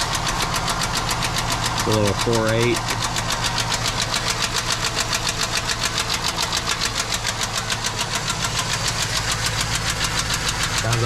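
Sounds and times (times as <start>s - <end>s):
fast even engine ticking: 0.0s - 11.0s
truck engine running: 0.0s - 11.0s.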